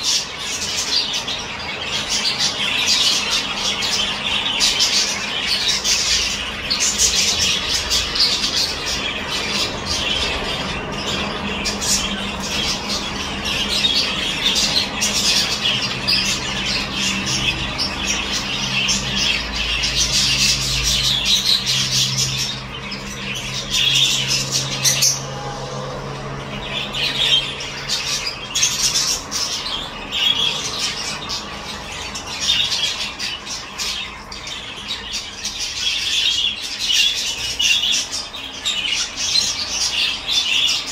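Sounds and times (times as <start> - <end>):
lovebirds chattering: 0.0 - 40.9.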